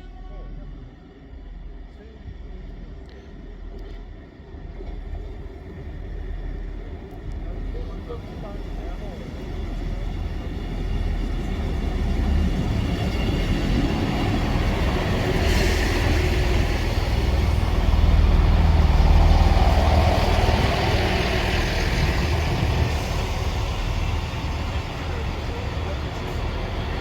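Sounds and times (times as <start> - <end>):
diesel train engine and wheels: 0.0 - 27.0.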